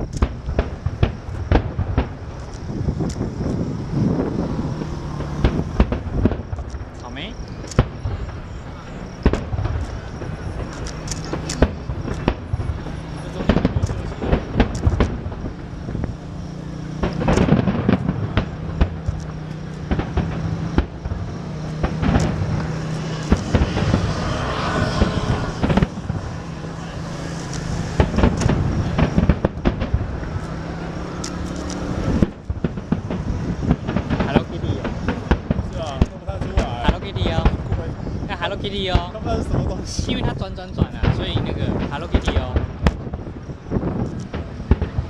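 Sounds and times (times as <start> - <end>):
fireworks bangs and cracks: 0.0 - 45.0
fireworks crackle: 0.0 - 45.0.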